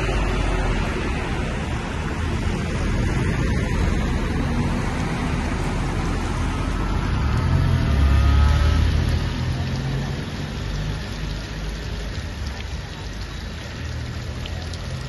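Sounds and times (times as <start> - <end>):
fountain water splashing: 0.0 - 15.0
street traffic: 0.0 - 15.0.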